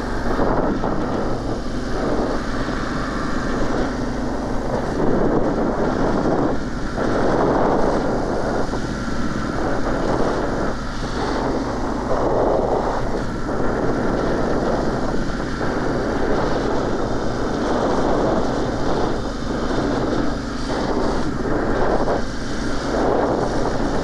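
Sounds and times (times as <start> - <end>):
motorcycle engine running: 0.0 - 24.0
wind rushing on microphone: 0.0 - 24.0.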